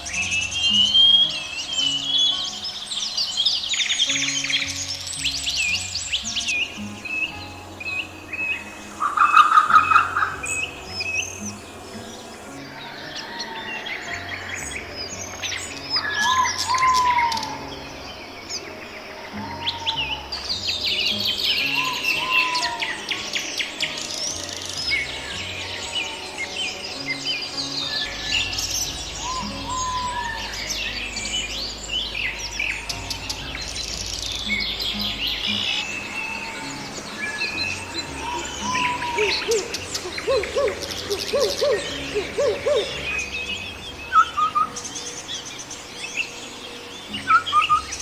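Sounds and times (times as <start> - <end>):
songbirds chirping and trilling: 0.0 - 48.0
whistled bird call: 0.0 - 48.0.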